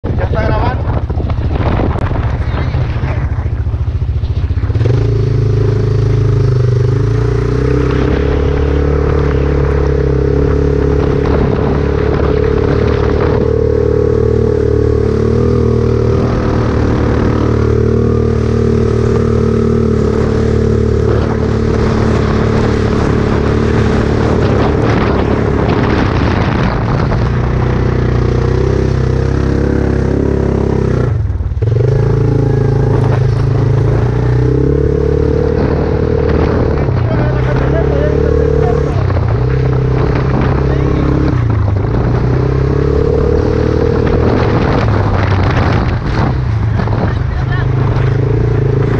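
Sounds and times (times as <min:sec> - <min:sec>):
vehicle engine running: 0:00.0 - 0:48.9.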